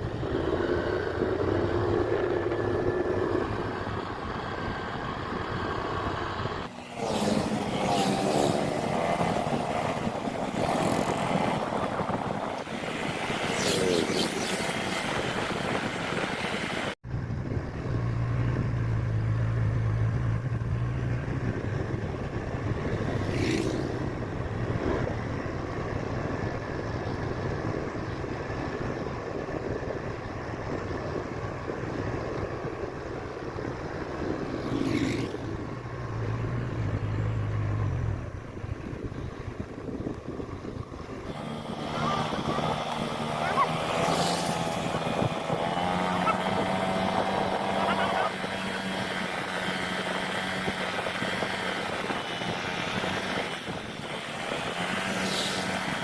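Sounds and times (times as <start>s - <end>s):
scooter engine: 0.0s - 56.0s
wind noise: 0.0s - 56.0s.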